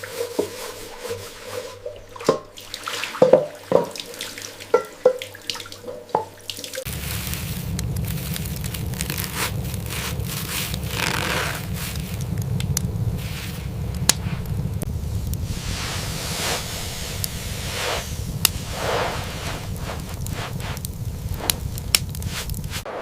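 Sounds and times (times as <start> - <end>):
rushing water: 0.0 - 22.9
water dripping and splashing: 0.0 - 22.9.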